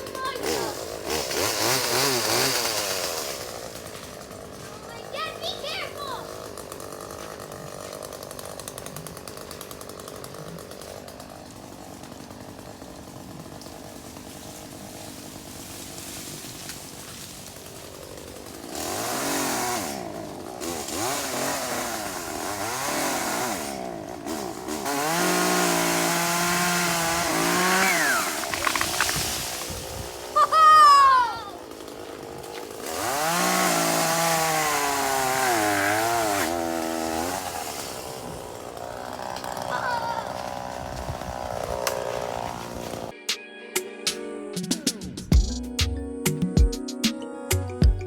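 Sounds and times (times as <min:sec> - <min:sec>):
chainsaw revving: 0:00.0 - 0:43.2.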